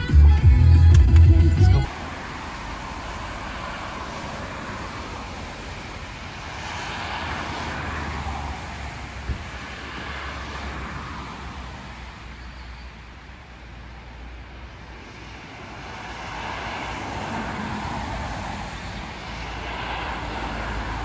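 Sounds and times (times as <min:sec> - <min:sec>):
vehicle road noise rumble: 0:00.0 - 0:21.0.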